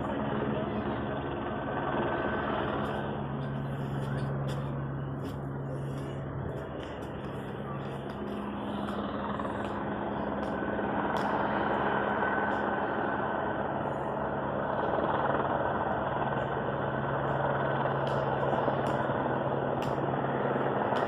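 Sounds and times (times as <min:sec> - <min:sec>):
helicopter hovering: 0:00.0 - 0:21.0.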